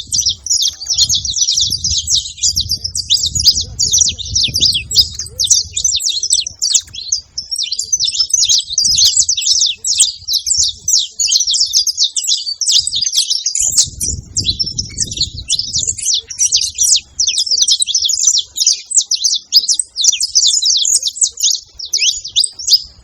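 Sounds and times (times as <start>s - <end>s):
finches chirping: 0.0s - 23.0s.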